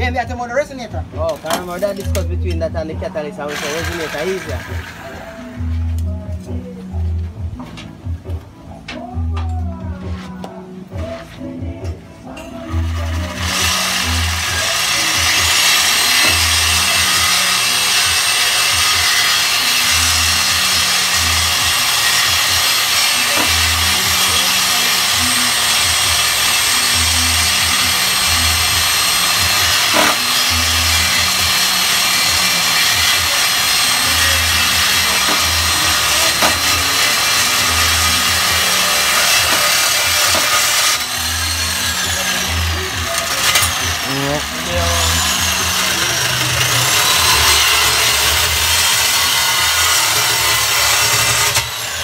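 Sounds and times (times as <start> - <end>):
power saw cutting metal pipe: 1.2 - 5.8, 12.4 - 52.0.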